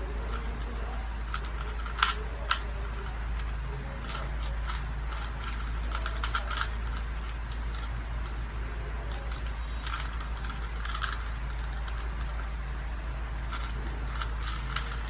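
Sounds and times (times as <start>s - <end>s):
puzzle cube layers clicking: 0.0s - 12.5s, 13.4s - 15.0s
steady low hum: 0.0s - 15.0s.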